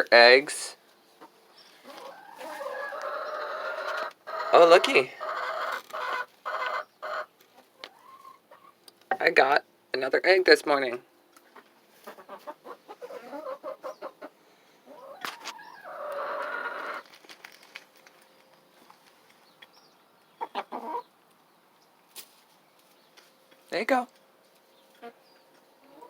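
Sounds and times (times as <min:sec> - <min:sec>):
hens clucking: 0:00.0 - 0:09.5, 0:10.7 - 0:23.6, 0:24.4 - 0:26.0.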